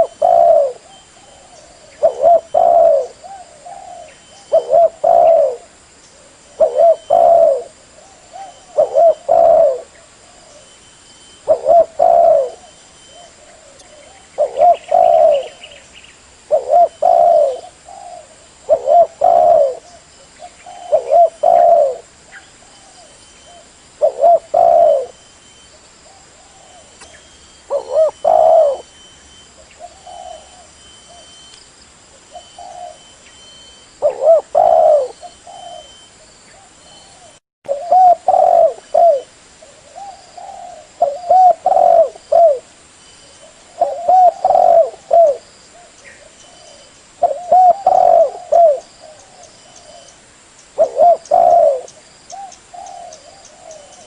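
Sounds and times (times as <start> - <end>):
dove cooing: 0.0 - 10.8, 11.4 - 15.8, 16.4 - 25.2, 26.0 - 31.5, 32.2 - 42.7, 43.4 - 50.2, 50.8 - 54.0.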